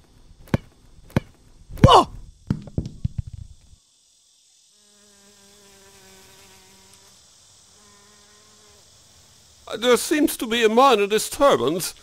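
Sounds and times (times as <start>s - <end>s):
faint insect-like buzz: 0.0s - 12.0s.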